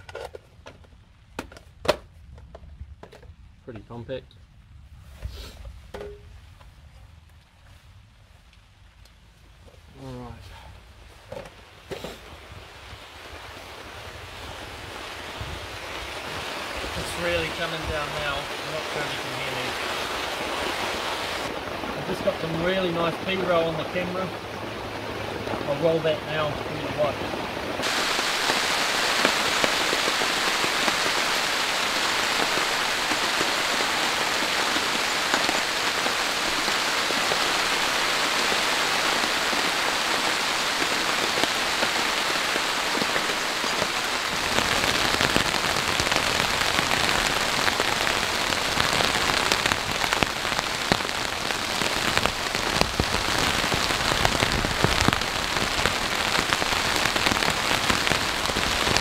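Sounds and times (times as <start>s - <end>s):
heavy rain falling: 7.4s - 59.0s.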